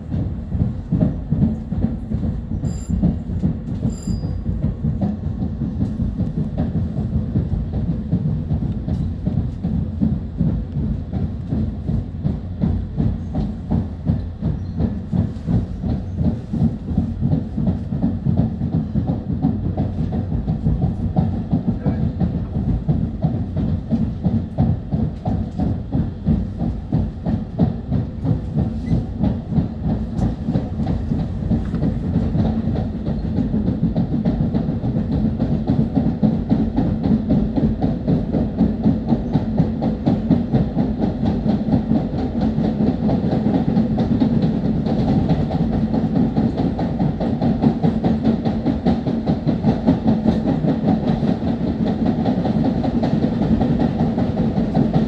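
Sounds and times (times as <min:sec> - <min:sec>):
rapid clickety-clack: 0:00.0 - 0:55.0
train wheels rumbling on rails: 0:00.0 - 0:55.0.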